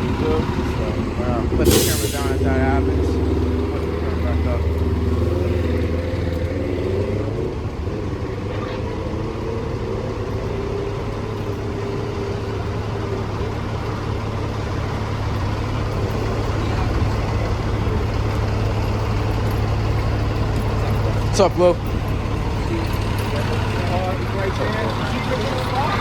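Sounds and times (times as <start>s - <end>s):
indistinct voices: 0.0s - 6.4s, 8.2s - 26.0s
diesel engine idling: 0.0s - 26.0s.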